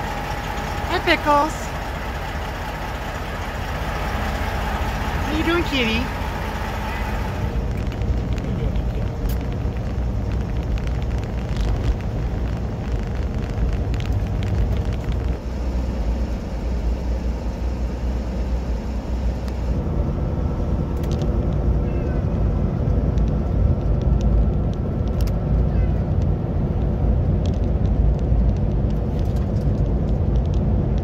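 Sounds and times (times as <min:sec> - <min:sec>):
road noise: 0:00.0 - 0:31.0
truck engine rumble: 0:00.0 - 0:31.0.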